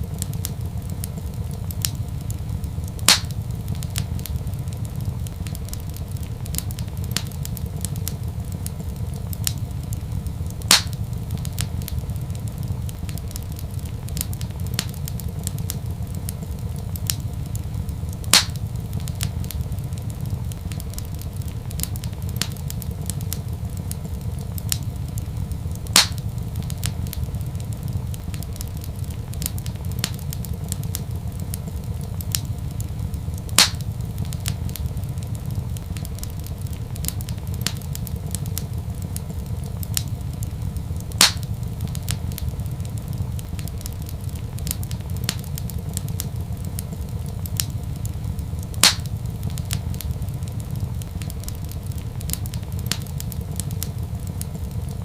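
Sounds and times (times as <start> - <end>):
loud sharp fire pops: 0.0 - 55.0
wood fire crackling: 0.0 - 55.0.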